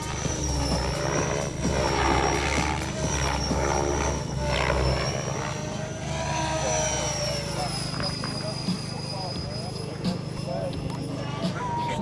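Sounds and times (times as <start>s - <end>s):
model aircraft engine whine: 0.0s - 12.0s.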